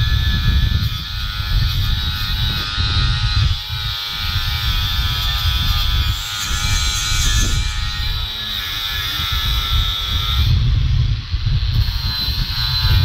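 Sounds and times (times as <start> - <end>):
angle grinder grinding metal: 0.0 - 13.0
wind buffeting microphone: 0.0 - 13.0.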